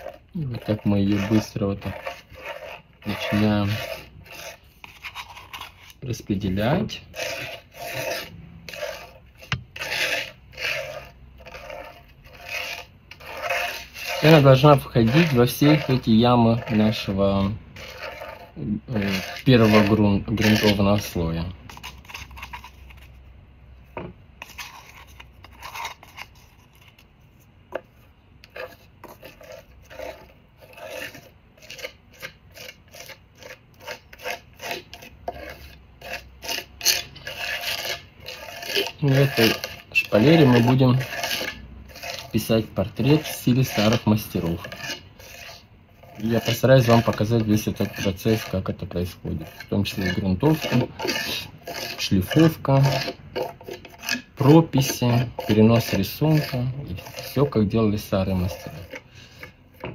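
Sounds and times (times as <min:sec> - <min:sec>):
palette knife scraping: 0:00.0 - 0:23.2, 0:24.4 - 0:59.9.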